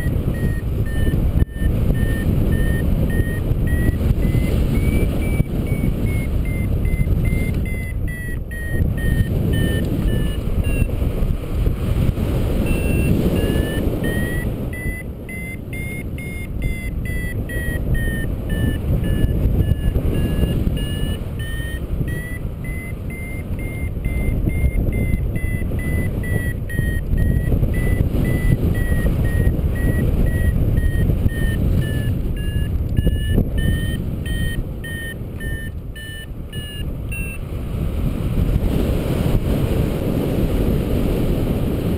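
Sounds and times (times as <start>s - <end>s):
variometer beeping rapidly: 0.0s - 11.4s, 12.3s - 37.5s
wind rushing over microphone: 0.0s - 41.9s.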